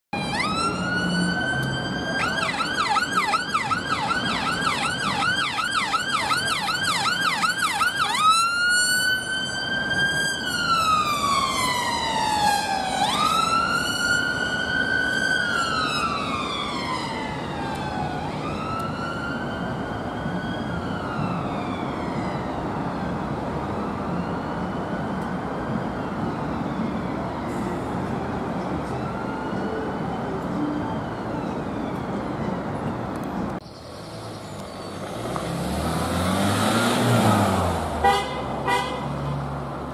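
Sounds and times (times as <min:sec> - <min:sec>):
ambulance siren: 0:00.1 - 0:33.4
road traffic noise: 0:00.1 - 0:39.9.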